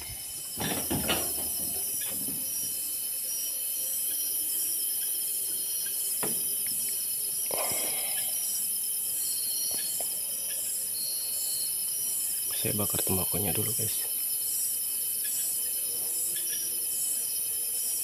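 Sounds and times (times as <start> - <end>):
crickets and insects trilling: 0.0 - 18.0.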